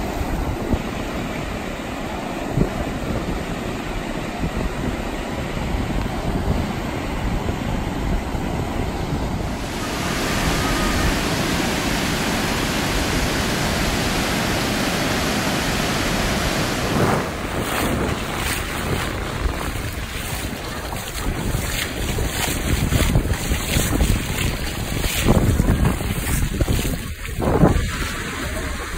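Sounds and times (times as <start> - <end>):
surf breaking on beach: 0.0 - 28.9
wind buffeting microphone: 0.0 - 28.9.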